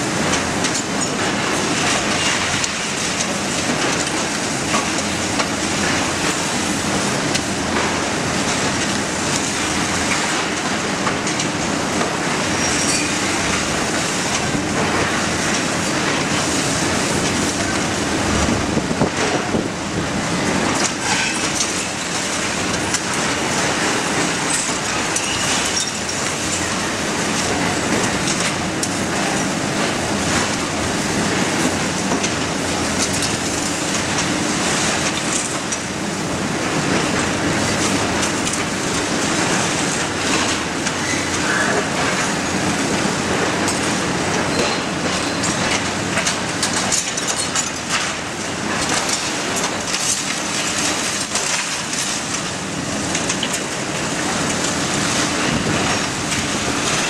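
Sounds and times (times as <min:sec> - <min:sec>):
steady machine drone: 0:00.0 - 0:57.0.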